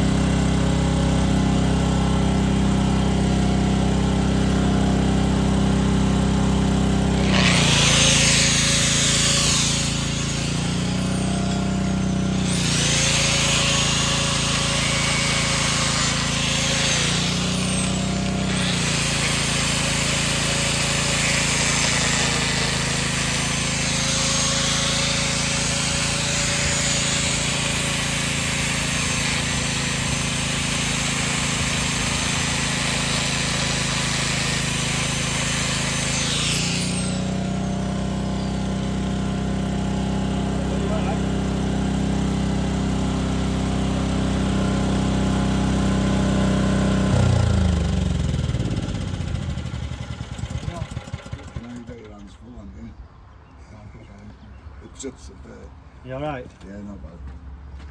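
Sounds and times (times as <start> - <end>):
angle grinder cutting metal: 0.0 - 51.9
steady motor hum: 0.0 - 52.1.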